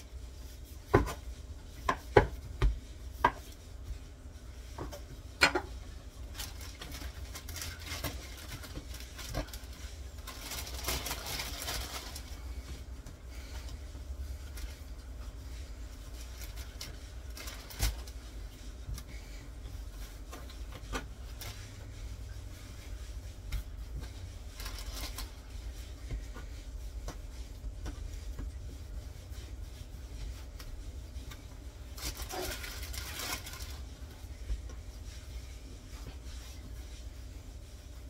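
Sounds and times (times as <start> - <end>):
rubbing and scraping: 0.0 - 38.0
rustling scrape: 0.0 - 38.0.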